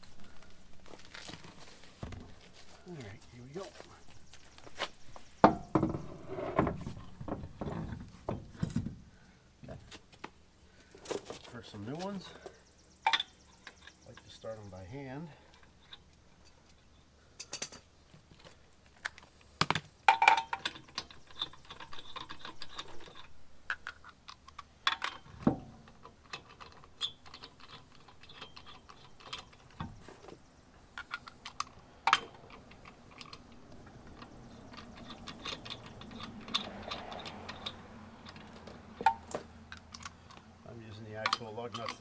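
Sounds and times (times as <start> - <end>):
lug nuts clicking and clinking: 4.3 - 9.2, 10.1 - 14.7, 15.3 - 42.0.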